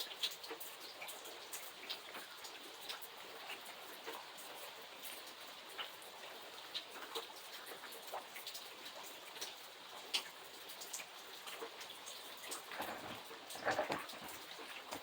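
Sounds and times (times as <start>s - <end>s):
rain drops ticking on hard surface: 0.0s - 15.0s.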